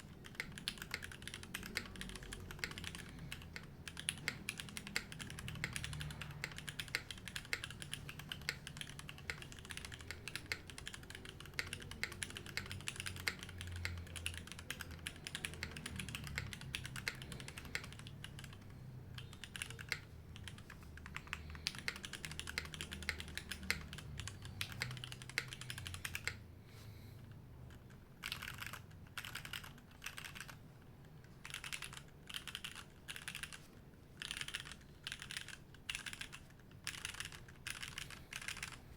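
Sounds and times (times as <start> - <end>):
mechanical keyboard typing: 0.0 - 26.5, 27.6 - 38.9.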